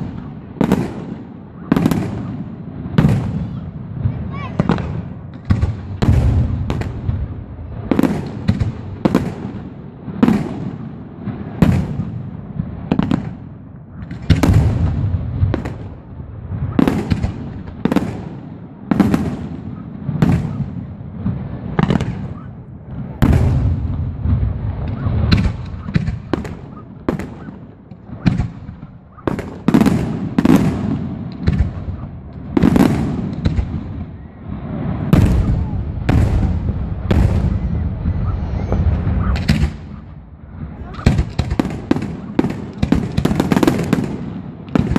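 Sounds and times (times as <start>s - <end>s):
fireworks bangs with low rumble: 0.0s - 44.9s.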